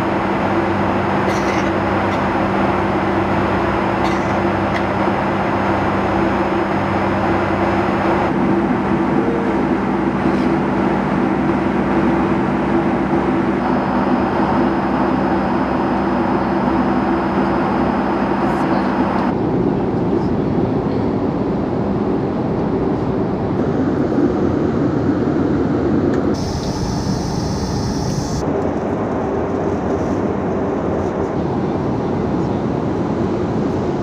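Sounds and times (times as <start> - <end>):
jet cabin airflow and engine noise: 0.0 - 34.0
steady low hum: 0.0 - 34.0.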